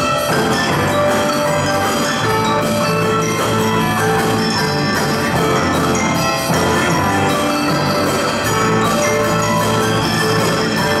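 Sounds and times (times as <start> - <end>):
bass guitar: 0.0 - 11.0
drum kit: 0.0 - 11.0
marimbas: 0.0 - 11.0.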